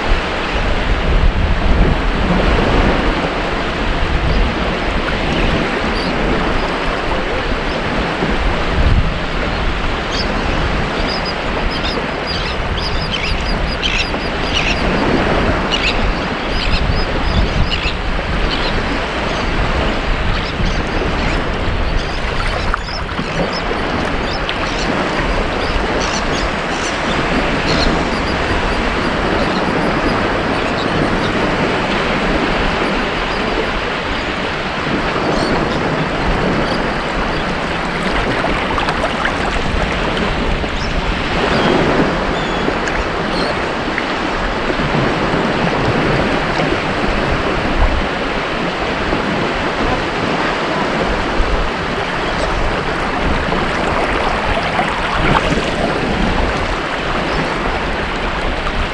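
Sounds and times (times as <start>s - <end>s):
waves washing onto beach: 0.0s - 58.9s.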